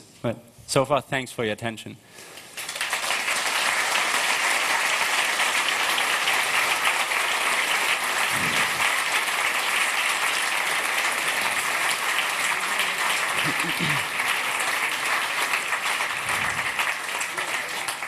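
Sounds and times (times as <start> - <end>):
audience applauding: 2.4 - 18.0.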